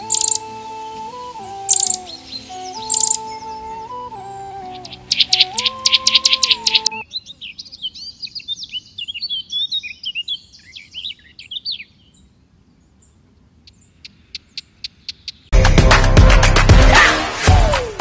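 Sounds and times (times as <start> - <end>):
songbirds chirping: 0.0 - 15.5.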